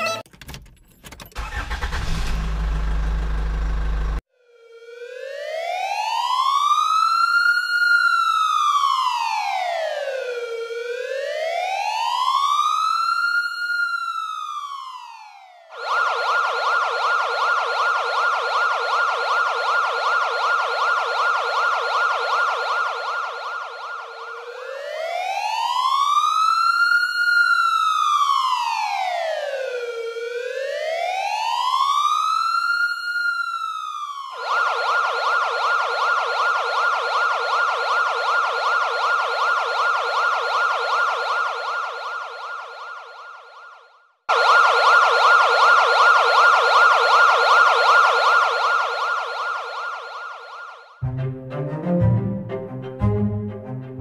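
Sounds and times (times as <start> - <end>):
ambulance siren wail and yelp: 0.0 - 0.2, 4.5 - 51.0.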